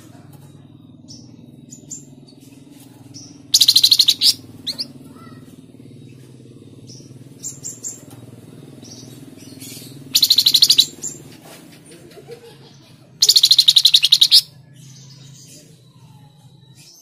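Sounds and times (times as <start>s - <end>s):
songbird chirps and trills: 0.0s - 17.0s
steady low hum: 0.0s - 17.0s.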